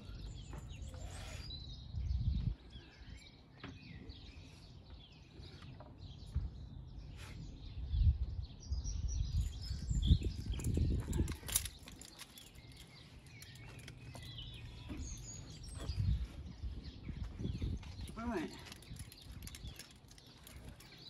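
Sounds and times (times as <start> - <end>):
small birds chirping and singing: 0.0 - 21.0.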